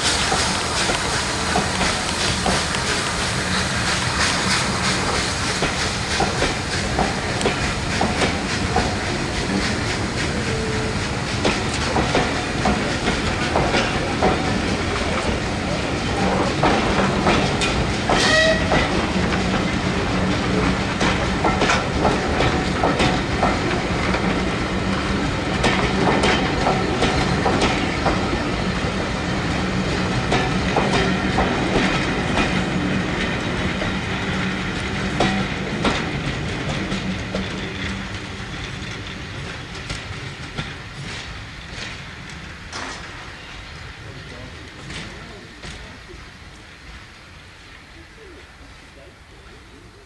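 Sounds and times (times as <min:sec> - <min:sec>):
train wheels clattering over rail joints: 0:00.0 - 0:47.8.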